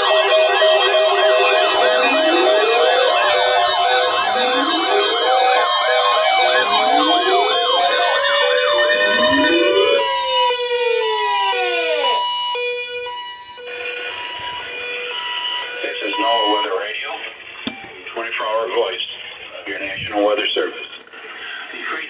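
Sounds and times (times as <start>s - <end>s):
electronic alarm sirens: 0.0s - 21.4s
steady alarm tones: 0.0s - 21.7s.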